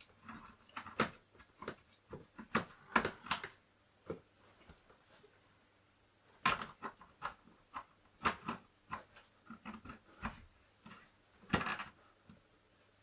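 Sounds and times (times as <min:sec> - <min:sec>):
clicks and knocks of handling: 0:00.0 - 0:05.0, 0:06.4 - 0:12.5.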